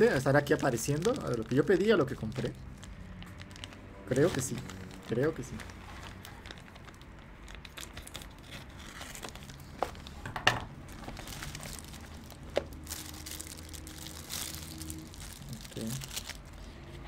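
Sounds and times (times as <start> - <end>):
plastic packaging crinkling: 0.0 - 10.2, 10.9 - 16.7.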